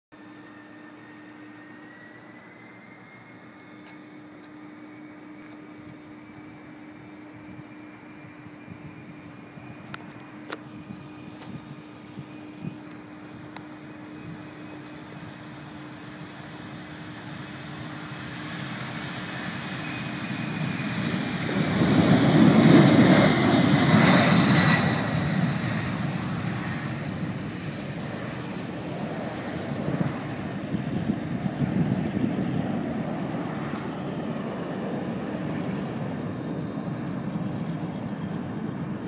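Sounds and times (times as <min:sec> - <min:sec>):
jet engines at takeoff thrust: 0:00.1 - 0:39.0.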